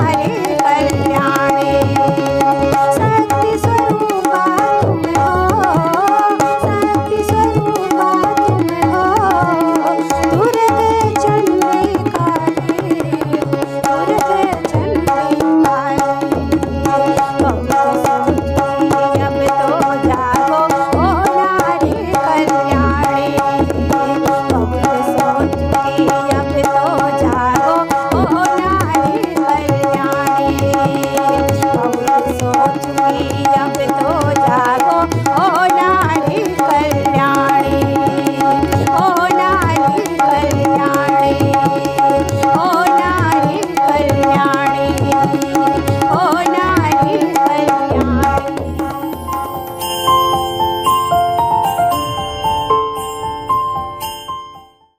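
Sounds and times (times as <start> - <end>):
woman singing: 0.0 - 49.4
tabla rhythm: 0.0 - 54.4
harmonium: 0.0 - 54.8.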